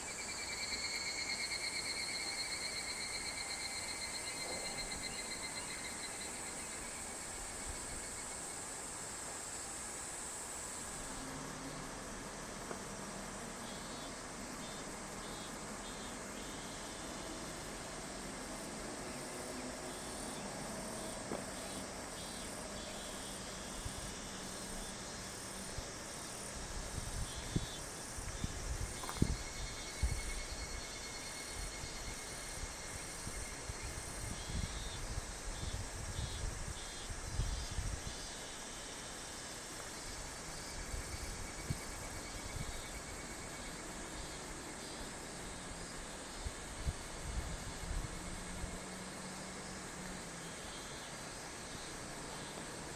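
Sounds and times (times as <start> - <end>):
insects buzzing and trilling: 0.0 - 52.9.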